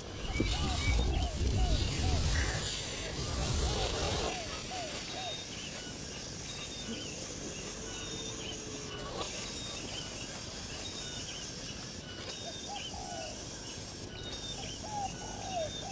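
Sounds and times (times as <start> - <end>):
insects hissing: 0.0 - 15.9
lower curved bird calls: 0.0 - 15.9.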